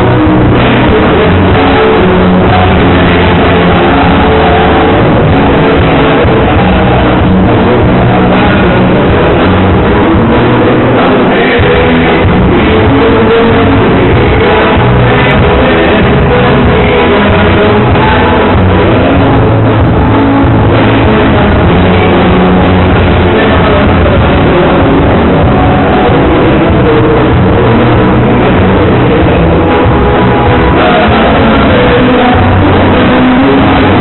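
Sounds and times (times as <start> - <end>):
live band playing dance music: 0.0 - 34.0.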